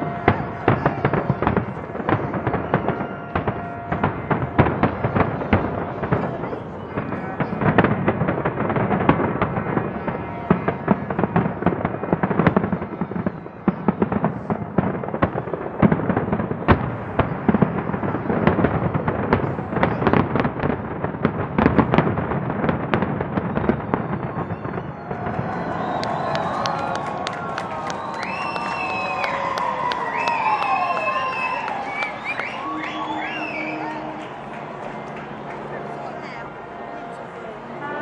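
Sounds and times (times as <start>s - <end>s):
firework bangs and crackles: 0.0s - 38.0s.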